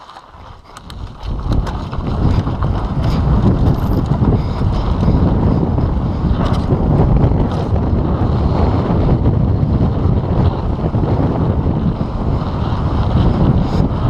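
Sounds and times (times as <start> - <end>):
bike clicks and rattles: 0.0 - 14.0
tyres rumbling over dirt: 0.0 - 14.0
wind buffeting microphone: 0.0 - 14.0.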